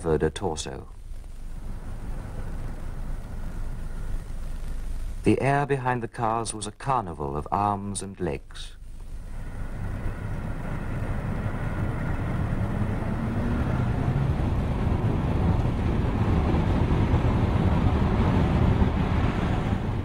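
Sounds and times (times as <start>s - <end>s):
low rumble of vehicle traffic: 0.7s - 6.0s, 8.6s - 20.0s.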